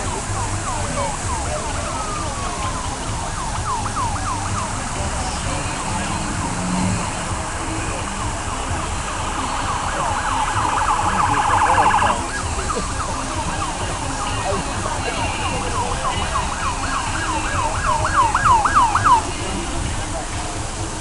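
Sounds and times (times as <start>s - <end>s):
emergency vehicle sirens: 0.0s - 21.0s
low traffic rumble: 0.0s - 21.0s.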